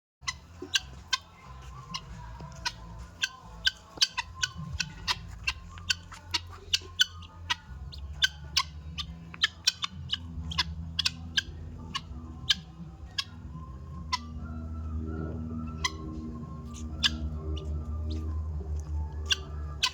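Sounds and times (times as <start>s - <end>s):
guinea fowl calling: 0.2s - 19.9s.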